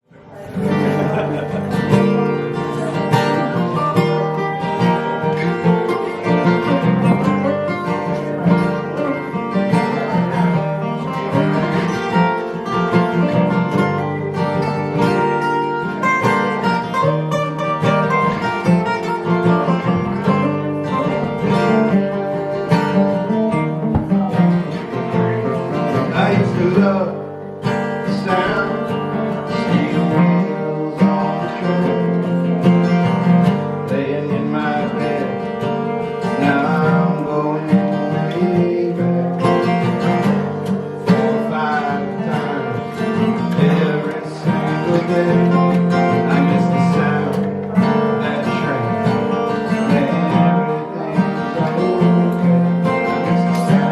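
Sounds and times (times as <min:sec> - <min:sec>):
strummed acoustic guitars: 0:00.0 - 0:53.9
folk-country string band: 0:00.3 - 0:53.9.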